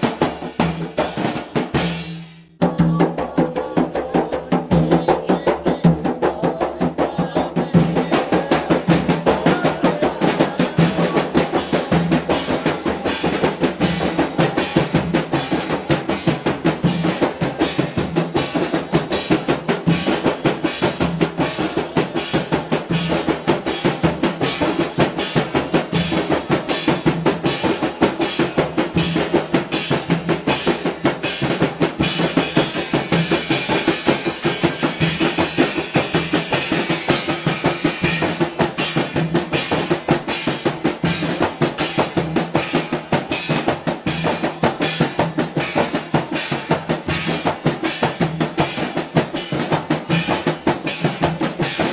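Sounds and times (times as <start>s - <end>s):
frame drums struck by hand: 0.0s - 51.9s
snare drum played with sticks: 0.0s - 51.9s.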